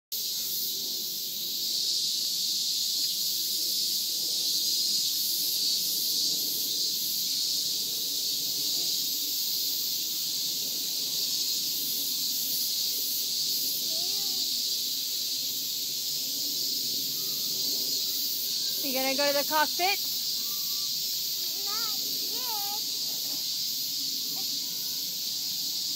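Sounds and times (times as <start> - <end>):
cicadas droning: 0.2 - 25.9.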